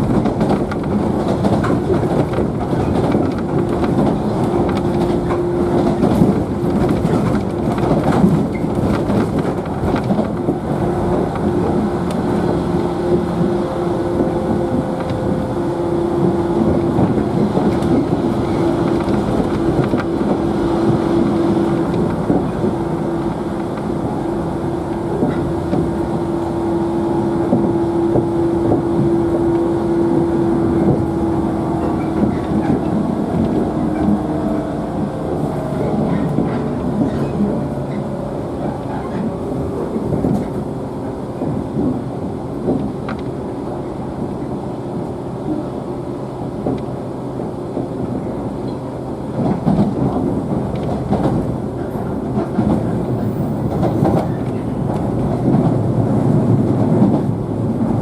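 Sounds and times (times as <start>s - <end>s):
rail joint clicks: 0.0s - 58.0s
train wheels rumbling on rail: 0.0s - 58.0s.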